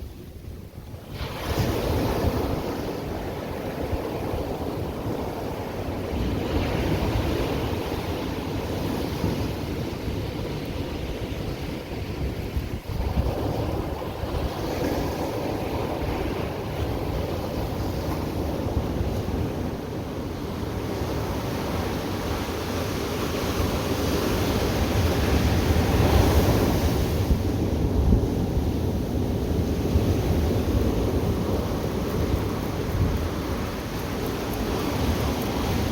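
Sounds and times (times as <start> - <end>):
ocean waves breaking on beach: 0.0 - 35.9
wind rumbling on microphone: 0.0 - 35.9.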